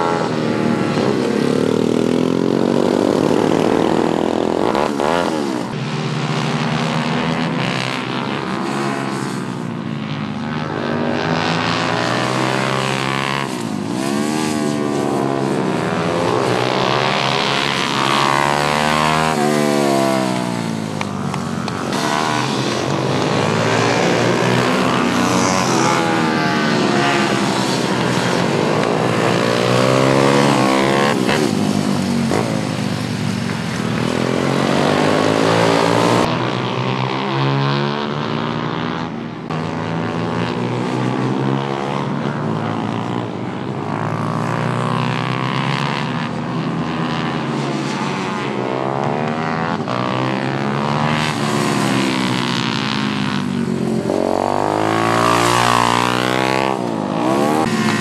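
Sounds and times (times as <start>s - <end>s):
racing motorcycle engines revving: 0.0s - 58.0s.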